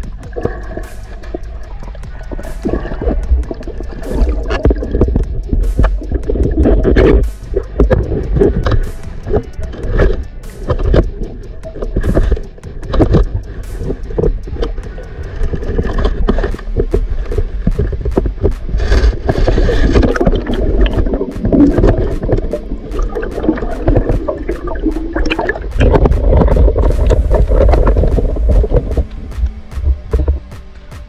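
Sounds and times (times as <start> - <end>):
underwater gurgling and bubbling: 0.0 - 30.6
low underwater rumble: 0.0 - 31.0.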